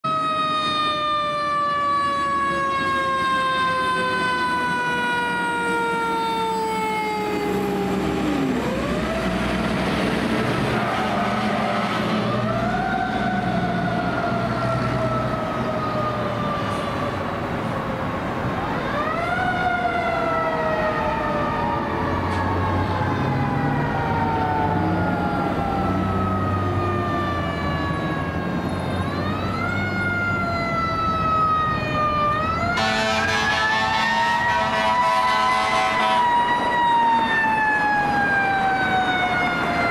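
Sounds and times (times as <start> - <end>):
diesel truck engines rumbling: 0.1 - 39.9.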